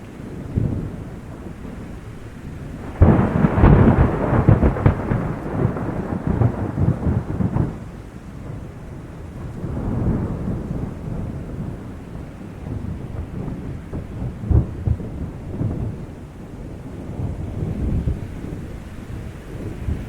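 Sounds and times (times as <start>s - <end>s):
steady rain: 0.0s - 20.0s
thunder crackling and rumbling: 0.0s - 20.0s.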